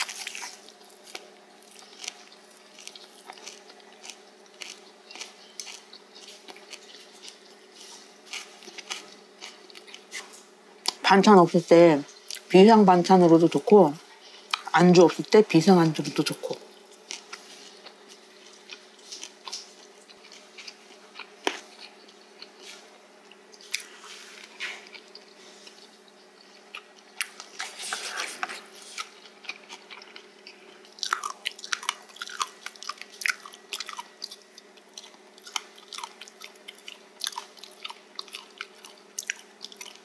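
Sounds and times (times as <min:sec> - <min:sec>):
person chewing crunchy gristle: 0:00.0 - 0:11.0, 0:16.4 - 0:40.0.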